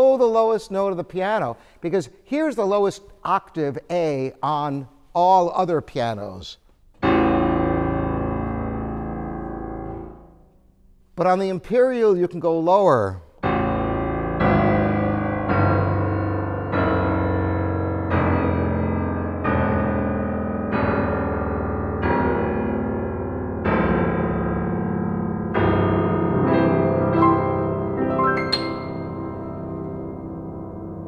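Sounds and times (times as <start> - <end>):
deep piano octaves: 0.0 - 31.0.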